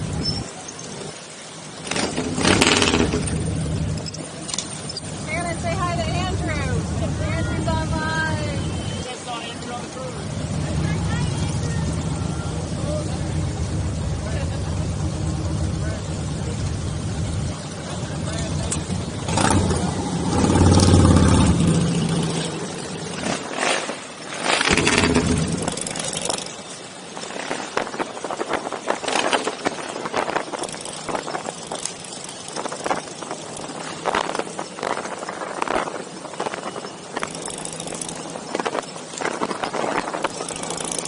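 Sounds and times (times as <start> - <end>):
rough crackling noise: 0.0 - 8.5, 10.7 - 41.0
motorcycle engines running: 0.0 - 41.0.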